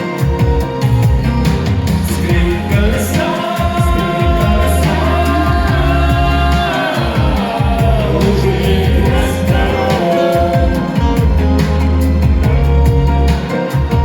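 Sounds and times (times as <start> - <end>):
pop song with held sung notes: 0.0 - 14.0.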